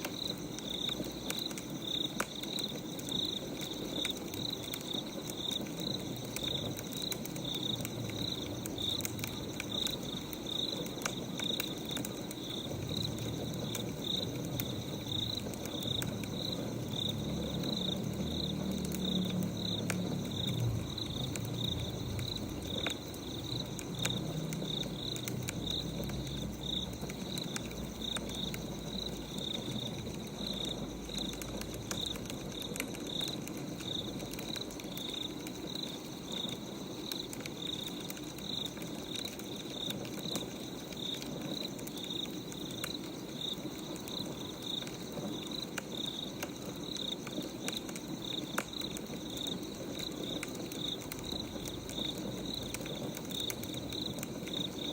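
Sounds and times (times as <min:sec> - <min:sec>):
crackling wood fire: 0:00.0 - 0:54.9
cricket chirping: 0:00.0 - 0:54.9
fire popping: 0:00.0 - 0:54.9.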